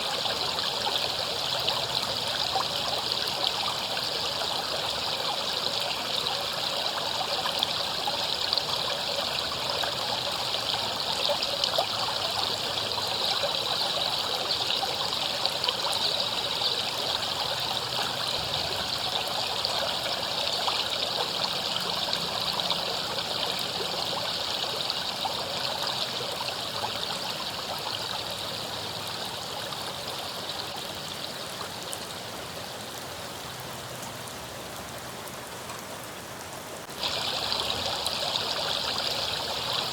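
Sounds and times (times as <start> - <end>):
river water splashing over rocks: 0.0 - 39.9.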